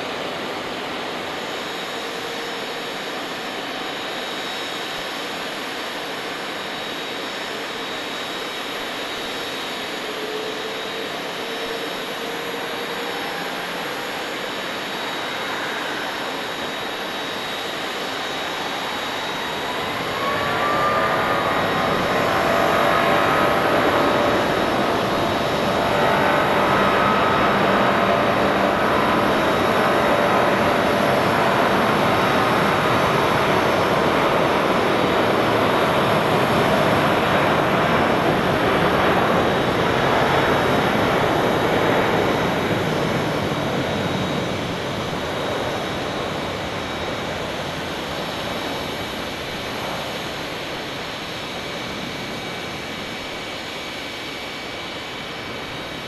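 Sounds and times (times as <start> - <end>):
jet engine whine rising: 0.0 - 56.0
jet engines roaring: 0.0 - 56.0.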